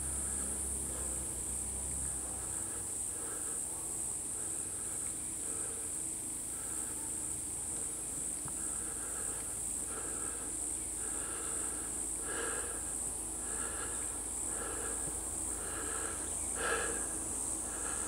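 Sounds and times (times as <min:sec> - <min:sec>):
insect chirping call: 0:00.0 - 0:18.0
insects buzzing: 0:00.0 - 0:18.0.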